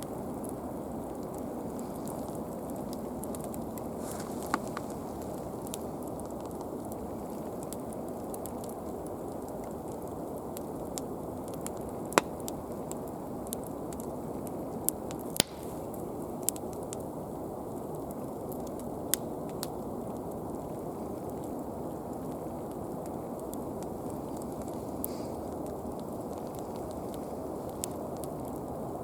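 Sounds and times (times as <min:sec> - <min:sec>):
fire popping and crackling: 0:00.0 - 0:29.0
log fire rushing: 0:00.0 - 0:29.0.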